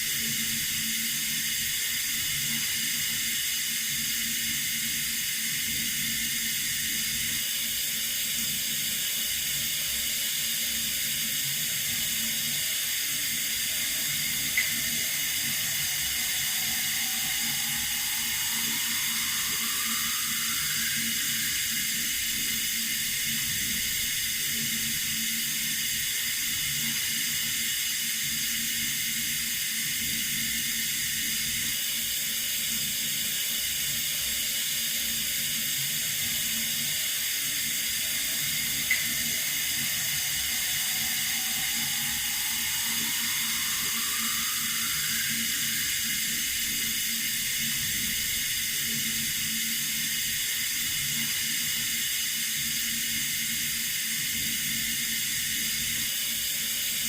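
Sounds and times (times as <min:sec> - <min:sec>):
water running from a tap: 0:00.1 - 0:31.7, 0:35.4 - 0:57.0.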